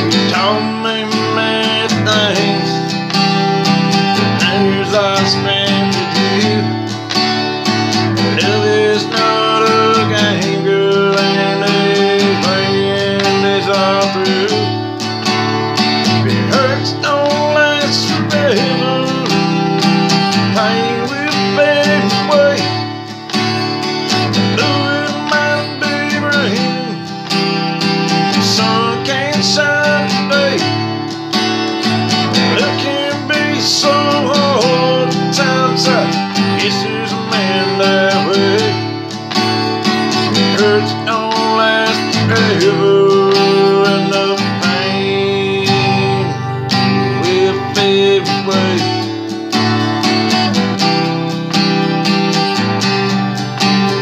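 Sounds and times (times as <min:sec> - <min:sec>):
man singing: 0:00.0 - 0:31.2, 0:31.8 - 0:51.0
acoustic guitar strumming: 0:00.0 - 0:54.0.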